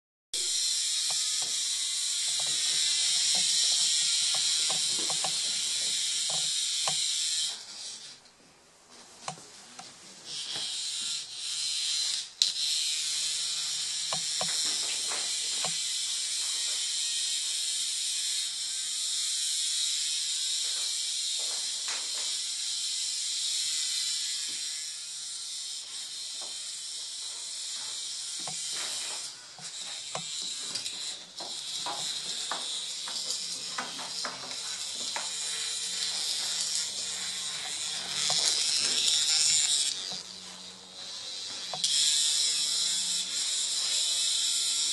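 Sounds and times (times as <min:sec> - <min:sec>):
toy vibration motor buzzing: 0:00.4 - 0:08.2, 0:10.2 - 0:44.9.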